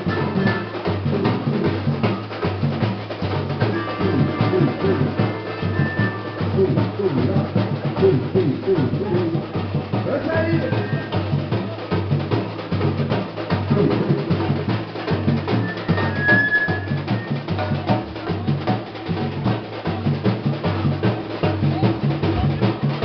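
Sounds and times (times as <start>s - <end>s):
bass drums beating: 0.0s - 23.0s.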